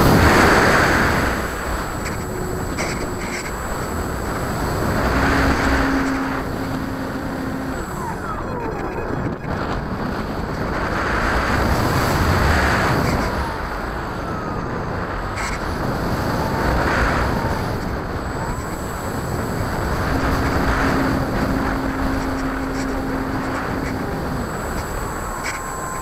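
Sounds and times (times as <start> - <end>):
propeller drone: 0.0 - 26.0
steady hum: 0.0 - 26.0
wind rushing over microphone: 0.0 - 26.0.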